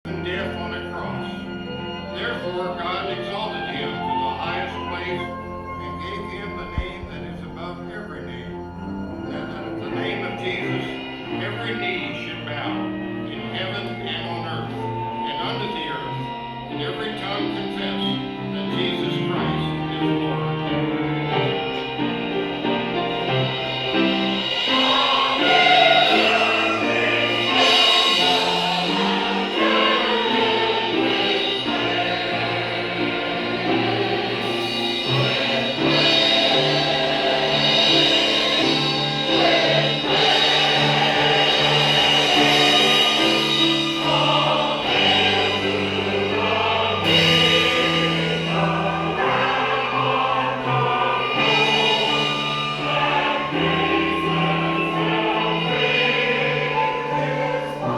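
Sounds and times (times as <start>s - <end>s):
church choir singing a hymn: 7.7s - 57.9s.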